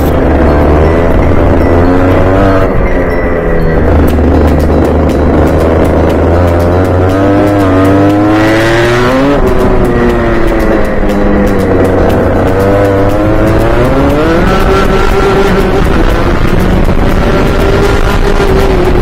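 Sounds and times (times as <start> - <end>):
kart two-stroke engine revving: 0.0 - 19.0.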